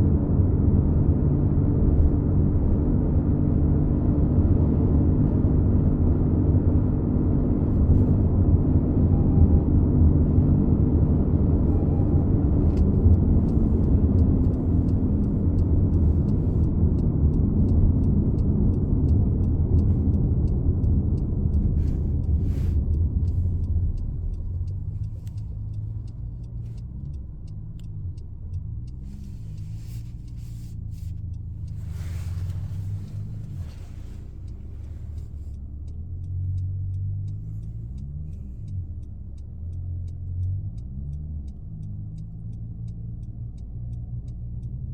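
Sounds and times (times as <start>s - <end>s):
car low humming drone: 0.0s - 44.9s.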